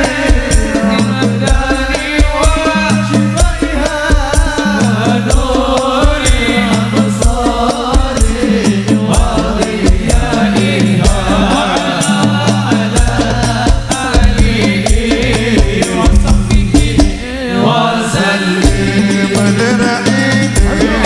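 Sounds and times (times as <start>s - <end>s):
hand-drum beat with heavy bass: 0.0s - 21.0s.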